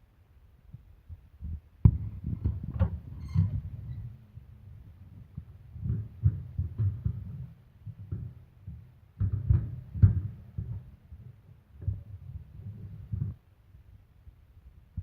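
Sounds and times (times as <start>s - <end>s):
low thumps and knocks: 0.7s - 13.4s.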